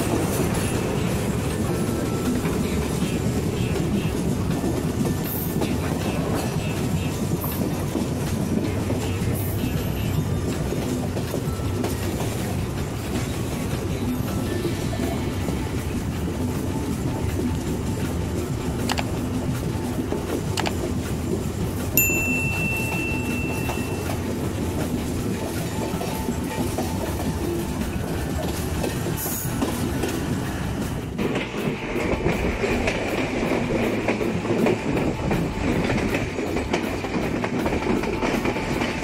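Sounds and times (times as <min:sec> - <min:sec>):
train wheels clicking over track: 0:00.0 - 0:39.0.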